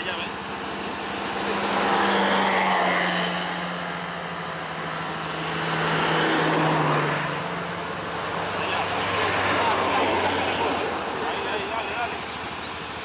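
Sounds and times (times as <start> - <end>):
road vehicles passing: 0.0 - 13.0
utv engine running at low revs: 0.0 - 13.0.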